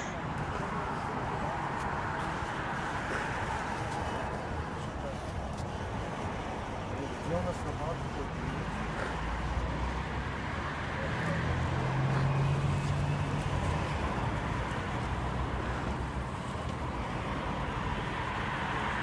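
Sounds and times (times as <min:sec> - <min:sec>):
low engine rumble of traffic: 0:00.0 - 0:19.0.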